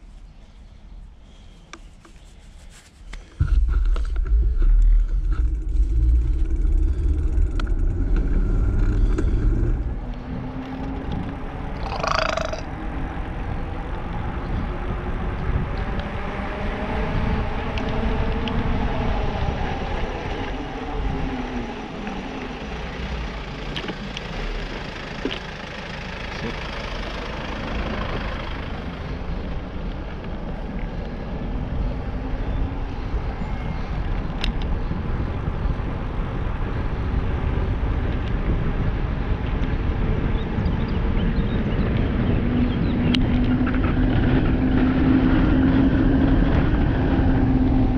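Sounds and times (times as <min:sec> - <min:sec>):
wind rumbling on microphone: 0:00.0 - 0:25.8, 0:26.5 - 0:47.9
tyre noise on asphalt: 0:01.2 - 0:16.2, 0:16.9 - 0:47.9.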